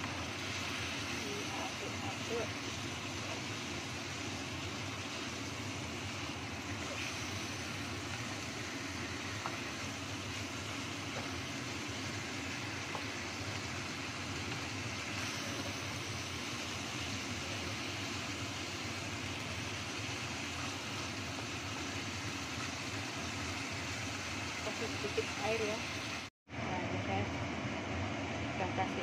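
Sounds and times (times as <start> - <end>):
chicken sizzling in a wok: 0.0 - 26.3.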